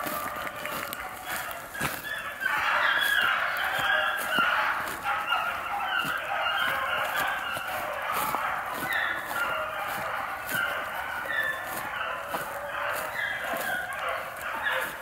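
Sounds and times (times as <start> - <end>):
beagles baying: 0.0 - 15.0.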